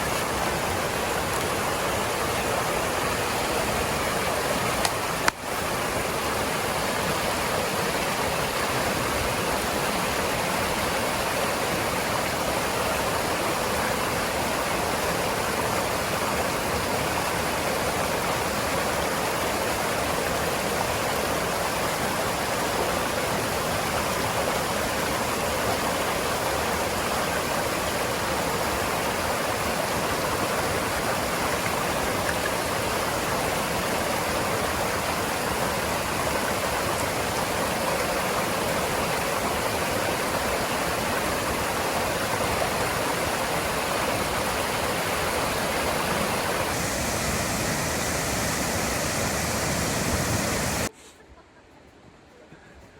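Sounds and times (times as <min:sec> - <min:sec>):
stream water running over rocks: 0:00.0 - 0:50.9.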